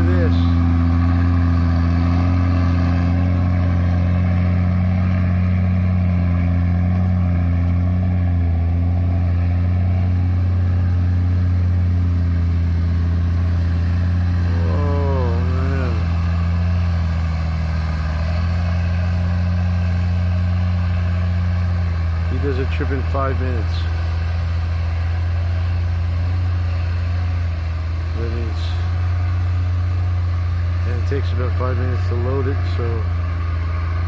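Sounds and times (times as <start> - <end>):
heavy diesel machinery droning: 0.0 - 34.0.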